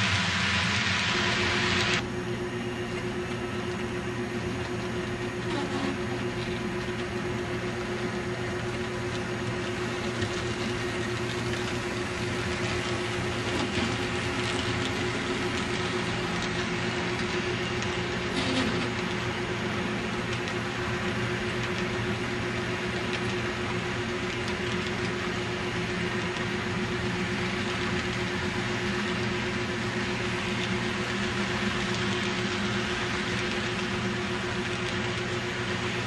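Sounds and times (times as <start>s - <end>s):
model train wheels on track: 0.0s - 36.0s
steady hum: 0.0s - 36.0s.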